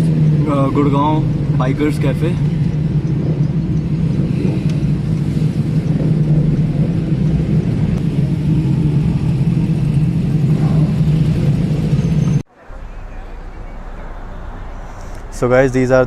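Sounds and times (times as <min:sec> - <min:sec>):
road and wind noise: 0:00.0 - 0:16.0
vehicle engine drone: 0:00.0 - 0:16.0.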